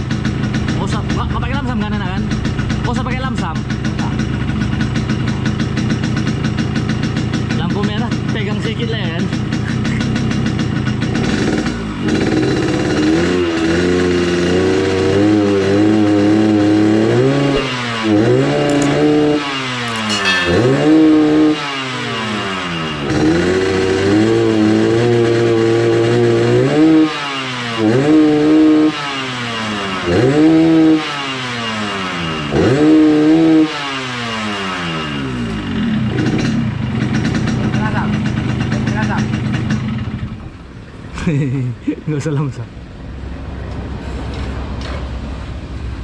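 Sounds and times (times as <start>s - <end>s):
two-stroke motorcycle engine revving: 0.0s - 1.0s, 2.2s - 19.8s, 20.6s - 40.4s.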